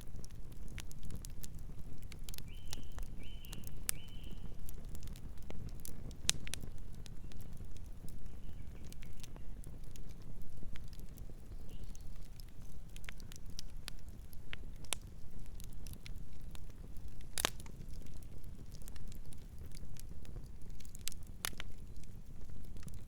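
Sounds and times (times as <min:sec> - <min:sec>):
campfire burning: 0:00.0 - 0:23.0
wood crackling and popping: 0:00.0 - 0:23.0.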